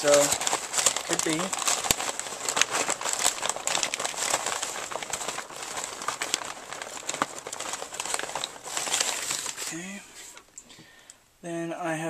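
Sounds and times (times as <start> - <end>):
newspaper rustling and crinkling: 0.0 - 11.0.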